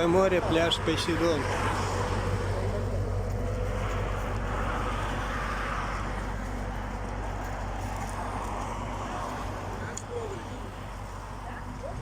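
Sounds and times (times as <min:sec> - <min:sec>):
moving car hum and road noise: 0:00.0 - 0:12.0.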